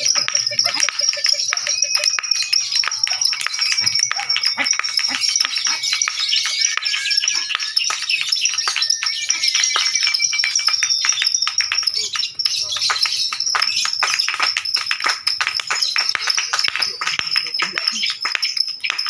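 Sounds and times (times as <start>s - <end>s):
lovebirds chirping and trilling: 0.0s - 19.0s.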